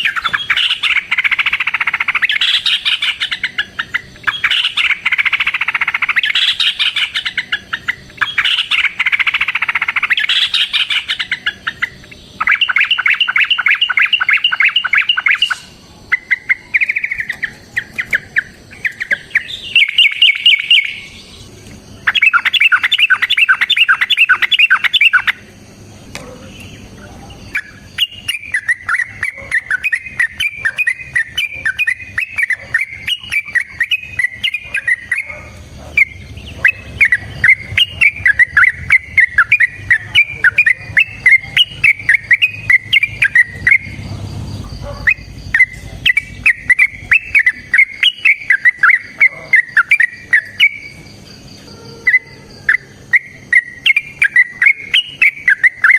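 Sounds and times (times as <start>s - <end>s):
bulbul calls and chattering: 0.0s - 55.9s.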